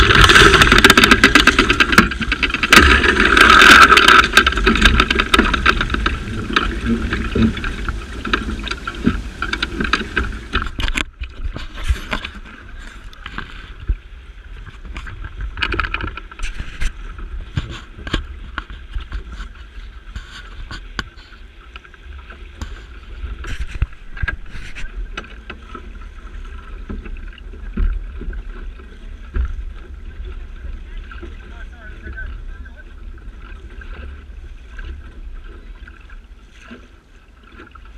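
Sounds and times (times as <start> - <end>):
water rushing along hull: 0.0 - 37.9.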